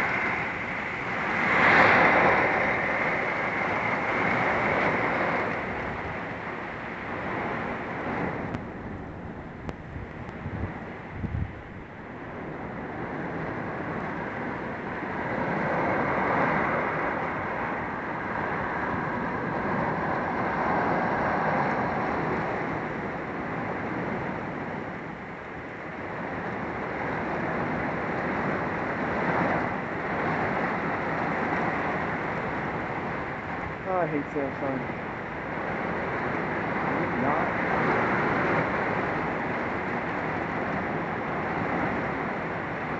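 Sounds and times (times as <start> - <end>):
rain: 0.0 - 42.9
storm wind gusting: 0.0 - 42.9.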